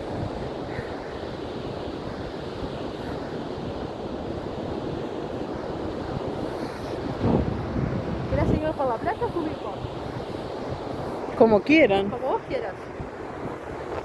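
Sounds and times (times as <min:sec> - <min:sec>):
sea surf washing on beach: 0:00.0 - 0:14.0
wind buffeting microphone: 0:00.0 - 0:14.0.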